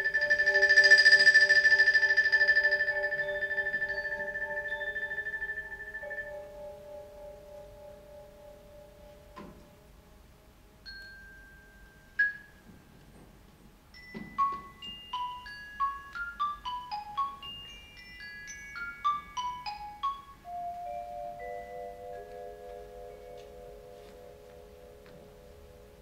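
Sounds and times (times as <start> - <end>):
mallet percussion notes: 0.0 - 10.0, 10.7 - 13.2, 13.9 - 26.0.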